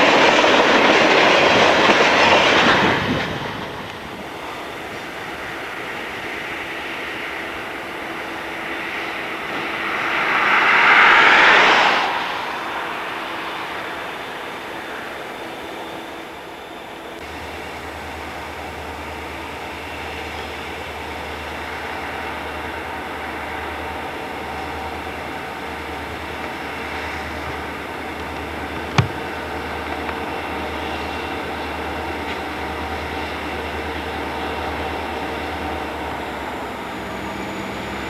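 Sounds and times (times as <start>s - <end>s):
diesel locomotive rumble: 0.0s - 38.0s
freight train cars rolling: 0.0s - 38.0s.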